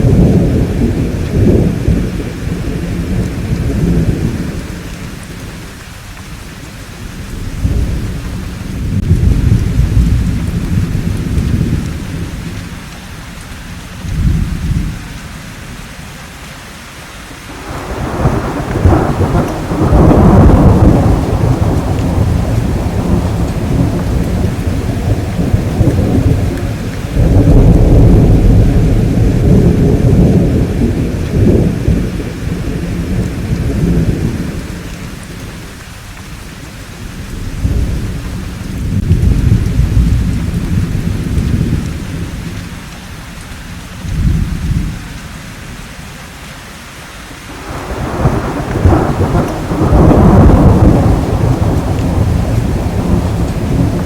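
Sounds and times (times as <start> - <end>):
deep rolling thunder: 0.0 - 5.8, 6.9 - 13.0, 13.9 - 15.2, 17.5 - 35.9, 36.9 - 43.0, 43.9 - 45.8, 47.5 - 54.0
steady rainfall: 0.0 - 54.0.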